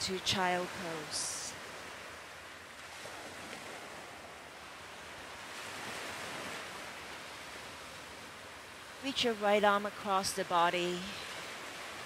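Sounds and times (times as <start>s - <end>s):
ocean waves washing: 0.0s - 12.0s.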